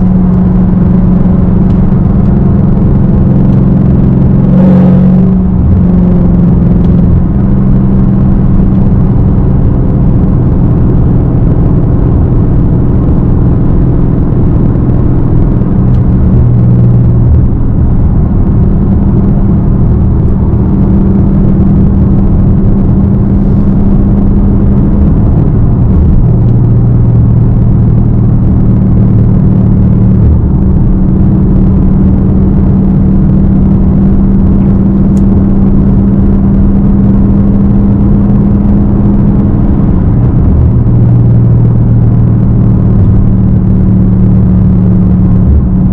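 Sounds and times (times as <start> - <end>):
loud car engine drone: 0.0 - 45.9.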